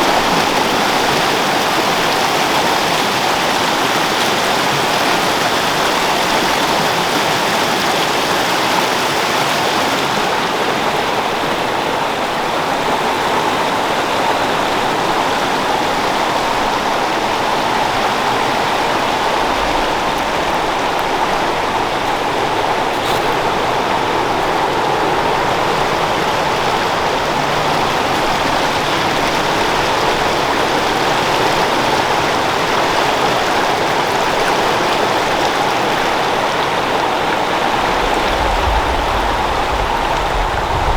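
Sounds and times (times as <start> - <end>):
creek water flowing: 0.0 - 40.9.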